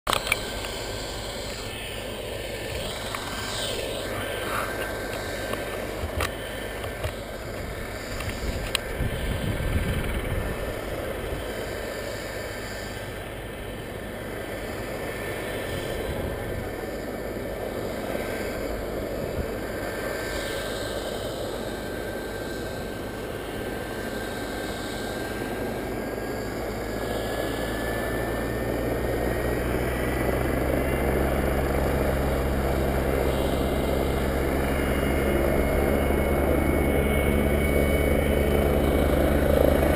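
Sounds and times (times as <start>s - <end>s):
helicopter engine and rotor: 0.1s - 39.9s
high turbine whine: 0.1s - 39.9s.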